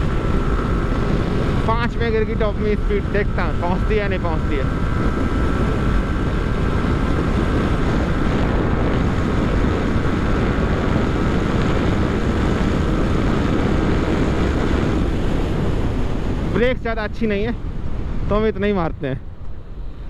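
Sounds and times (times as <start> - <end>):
motorcycle engine at full throttle: 0.0 - 20.0
wind rush over microphone: 0.0 - 20.0.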